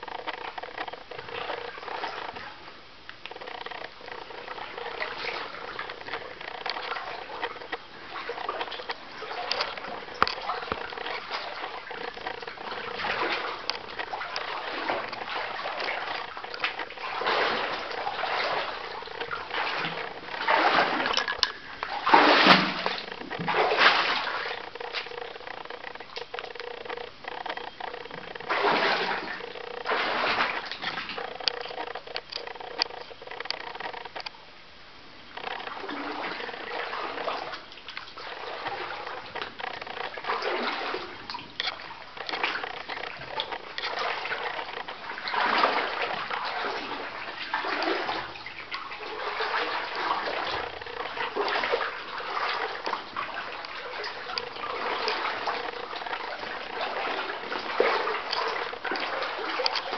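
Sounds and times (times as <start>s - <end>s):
water splashing from wading: 0.0s - 34.2s, 35.3s - 59.9s.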